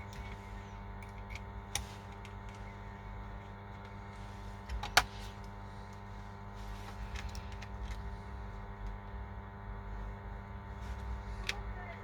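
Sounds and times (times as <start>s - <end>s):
electrical equipment hum: 0.0s - 12.0s.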